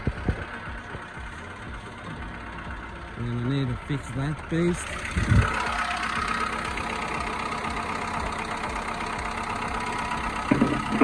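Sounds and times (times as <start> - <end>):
car engine idling with faint whine: 0.0 - 11.0.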